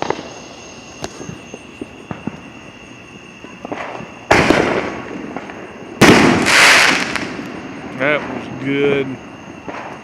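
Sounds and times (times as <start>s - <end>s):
loud firework booms: 0.0s - 2.6s, 3.4s - 10.0s.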